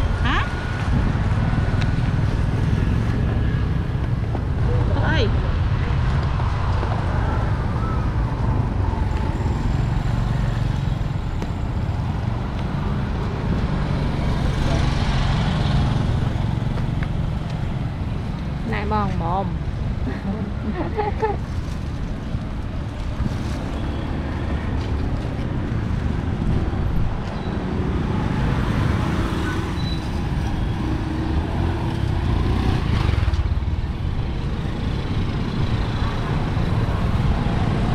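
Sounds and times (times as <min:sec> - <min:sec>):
traffic rumble: 0:00.0 - 0:37.9.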